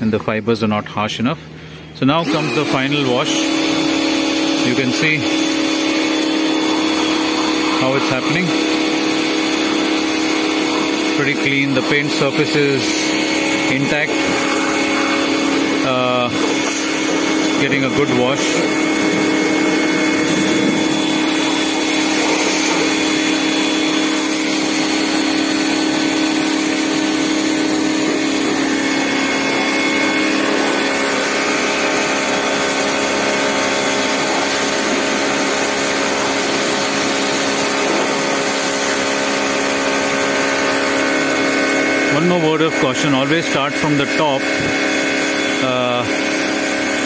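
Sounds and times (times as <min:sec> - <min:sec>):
pressure washer humming: 0:01.5 - 0:47.0
water jet hissing: 0:02.1 - 0:47.0.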